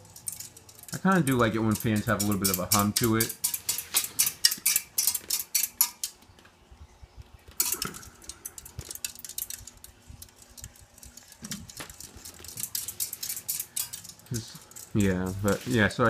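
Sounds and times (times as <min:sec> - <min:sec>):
metallic clinking and jangling: 0:00.0 - 0:06.1, 0:07.6 - 0:15.7
ceiling fan hum: 0:00.0 - 0:16.0.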